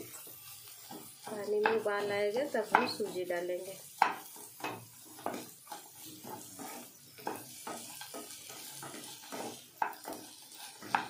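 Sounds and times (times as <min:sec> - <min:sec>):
vegetables sizzling: 0:00.0 - 0:11.0
wooden spatula scraping a pan: 0:00.0 - 0:11.0.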